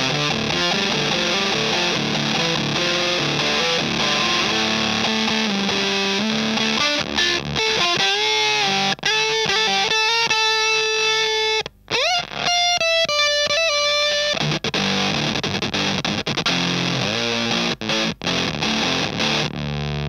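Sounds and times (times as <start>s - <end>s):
fuzzy electric guitar lead: 0.0s - 20.0s.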